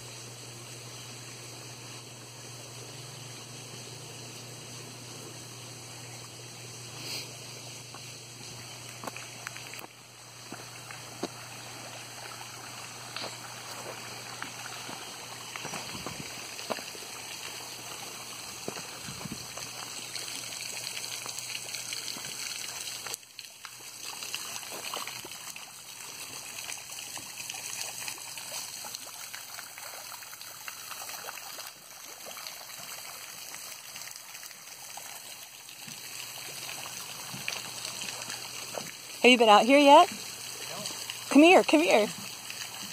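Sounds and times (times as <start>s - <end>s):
water trickling: 0.2s - 42.9s.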